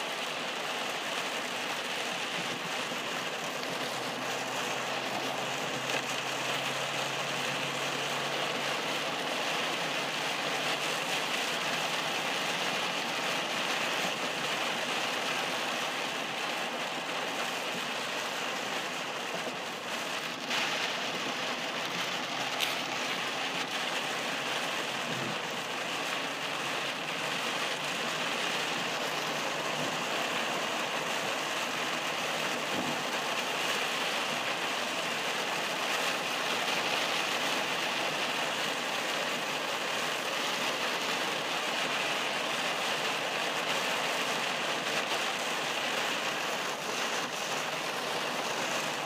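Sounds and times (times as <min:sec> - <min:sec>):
heavy rain on car windshield: 0:00.0 - 0:49.0
tyre noise on wet road: 0:00.0 - 0:49.0.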